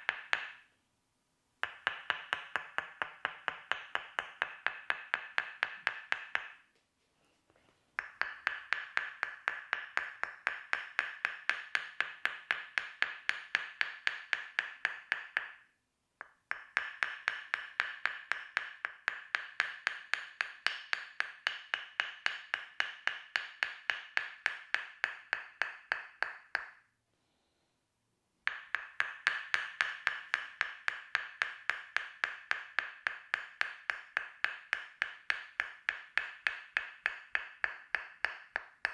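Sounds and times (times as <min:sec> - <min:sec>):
wooden mallet tapping wooden wedge: 0:00.0 - 0:00.7, 0:01.6 - 0:06.7, 0:08.0 - 0:26.9, 0:28.4 - 0:38.9.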